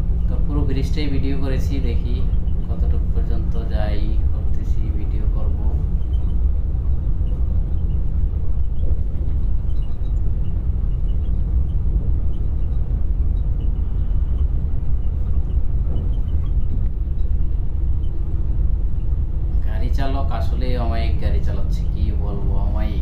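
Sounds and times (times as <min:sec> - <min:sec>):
coach engine and tyres rumbling: 0:00.0 - 0:23.0.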